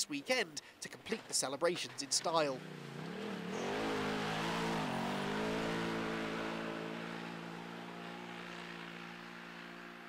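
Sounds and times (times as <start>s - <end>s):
utility vehicle engine running: 1.9s - 10.0s.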